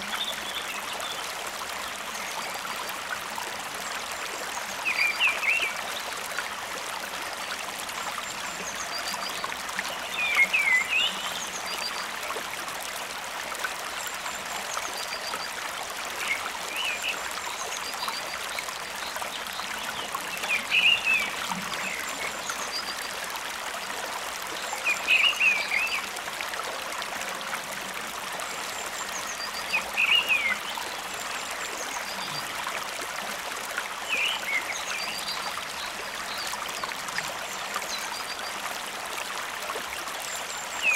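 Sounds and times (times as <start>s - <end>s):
flowing stream water: 0.0s - 40.9s.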